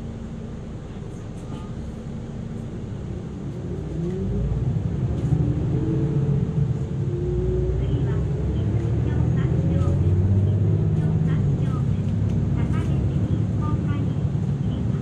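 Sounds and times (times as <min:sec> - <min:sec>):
bus drive note accelerating: 0:00.0 - 0:15.0.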